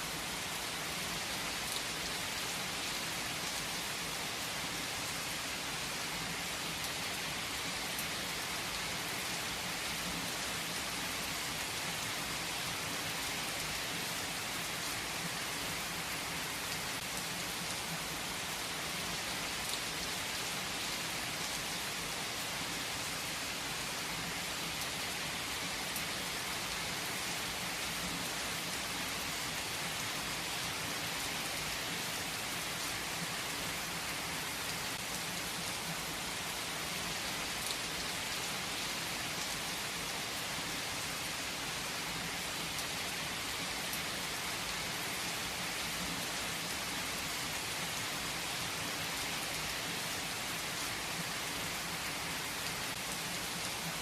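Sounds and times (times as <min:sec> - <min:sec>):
rain hissing on surfaces: 0:00.0 - 0:54.0.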